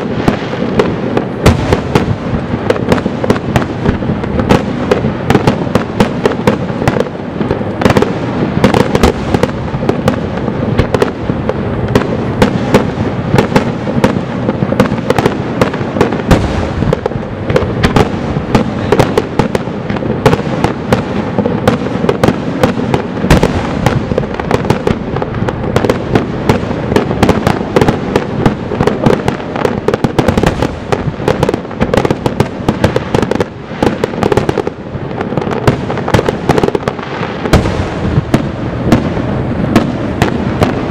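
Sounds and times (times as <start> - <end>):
fireworks booms and bangs: 0.0 - 40.9.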